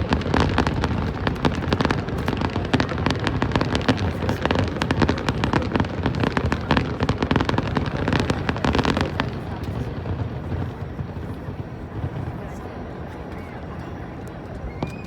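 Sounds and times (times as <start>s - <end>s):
fireworks cracks and bangs: 0.0s - 12.6s.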